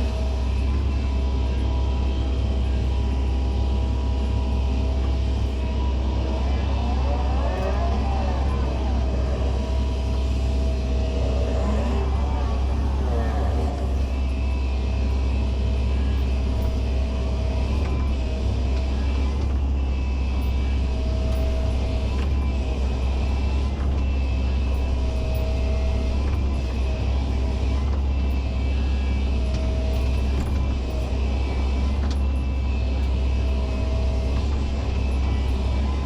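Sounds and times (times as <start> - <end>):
excavator diesel engine rumbling: 0.0 - 36.0
excavator digging soil: 0.0 - 36.0
whine: 0.0 - 36.0.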